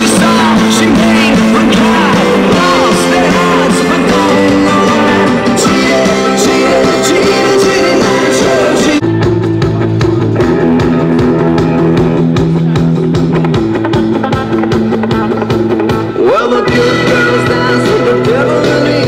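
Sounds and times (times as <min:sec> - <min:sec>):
rock song through speakers: 0:00.0 - 0:19.0.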